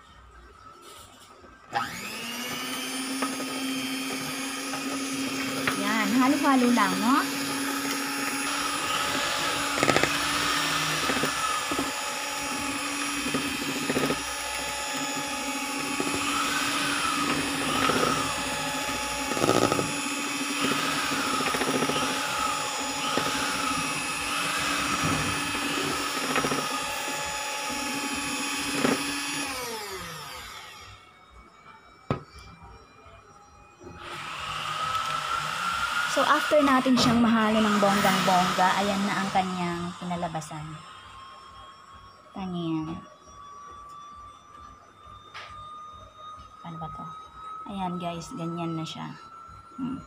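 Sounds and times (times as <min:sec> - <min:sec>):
mixer winding down whine: 0:00.0 - 0:50.0
electric hand mixer running: 0:00.9 - 0:50.0.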